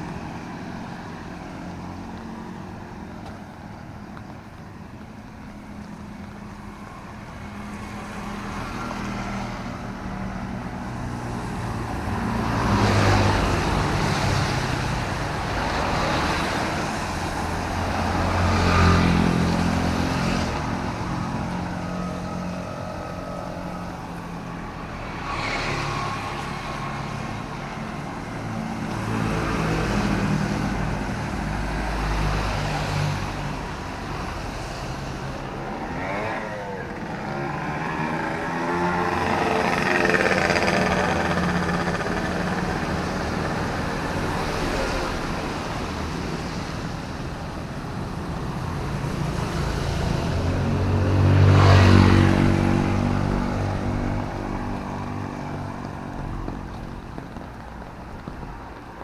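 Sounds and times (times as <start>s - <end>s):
steady engine background: 0.0s - 59.0s
vehicles passing on wet road: 0.0s - 59.0s.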